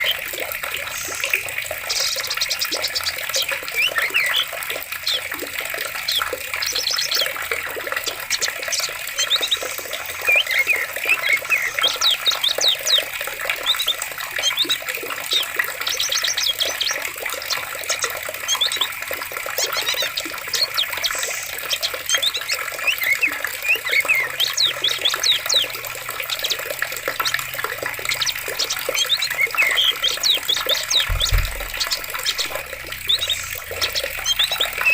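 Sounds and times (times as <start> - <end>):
birds chirping and trilling: 0.0 - 34.9
running stream water: 0.0 - 34.9.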